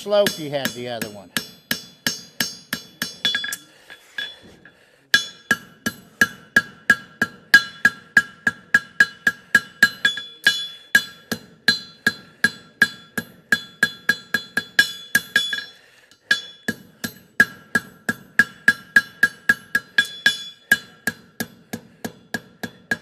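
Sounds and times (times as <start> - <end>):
hammer striking anvil: 0.0 - 23.0.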